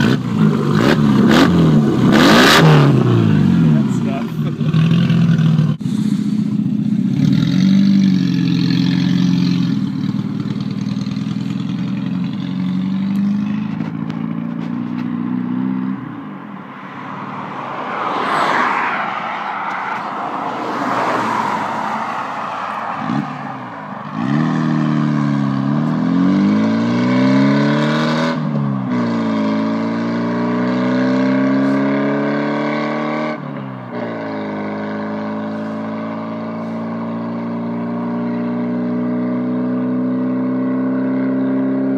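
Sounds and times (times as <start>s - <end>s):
car engine revving: 0.0s - 41.9s
road noise rushing: 0.0s - 41.9s.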